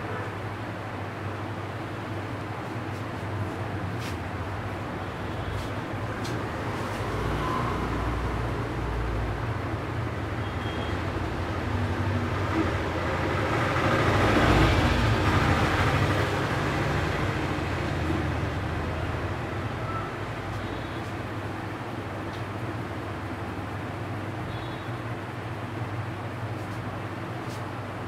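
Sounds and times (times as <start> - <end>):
road traffic noise: 0.0 - 28.0.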